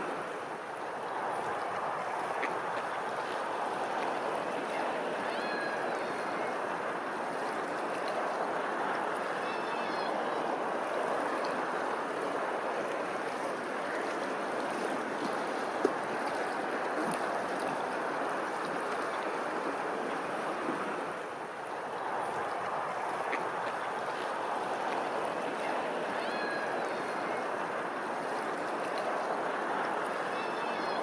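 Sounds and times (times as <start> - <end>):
water rushing and splashing: 0.0 - 31.0.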